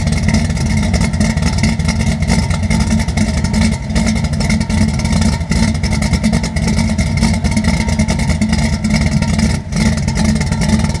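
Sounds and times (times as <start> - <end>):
car engine rumbling through exhaust: 0.0 - 11.0.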